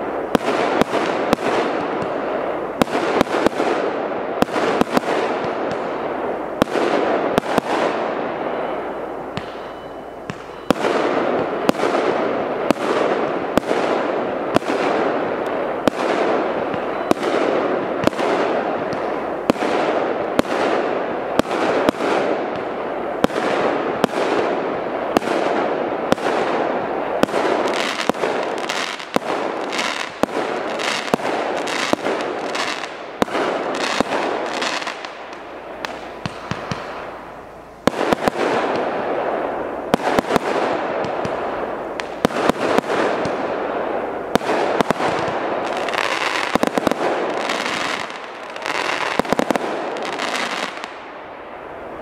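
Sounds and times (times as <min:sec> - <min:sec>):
fireworks firing with crackling: 0:00.0 - 0:52.0.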